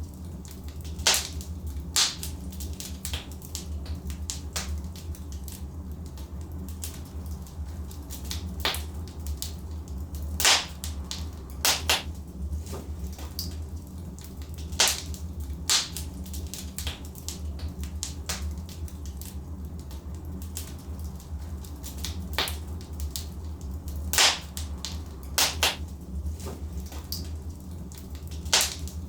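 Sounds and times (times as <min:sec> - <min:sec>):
logs crackling in fireplace: 0:00.0 - 0:29.0.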